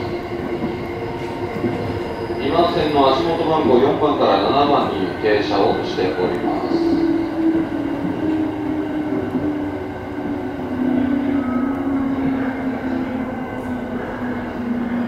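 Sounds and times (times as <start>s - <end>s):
electric train running: 0.0s - 15.0s.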